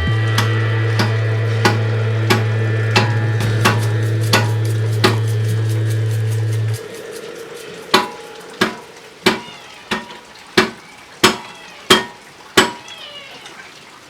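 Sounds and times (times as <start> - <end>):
sharp metallic knocks: 0.0 - 12.9.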